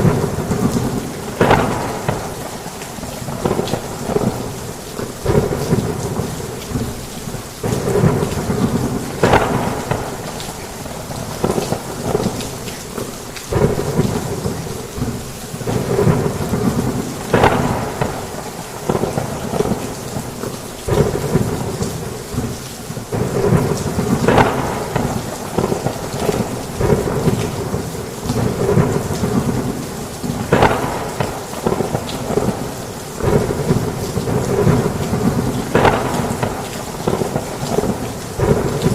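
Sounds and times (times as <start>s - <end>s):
sharp thunder cracks: 0.0s - 4.6s, 7.6s - 12.6s, 13.5s - 20.3s, 20.9s - 22.5s, 23.1s - 38.9s
rolling thunder: 0.0s - 7.0s, 7.6s - 12.7s, 13.5s - 20.3s, 20.9s - 38.9s
heavy rain on a roof: 0.0s - 38.9s.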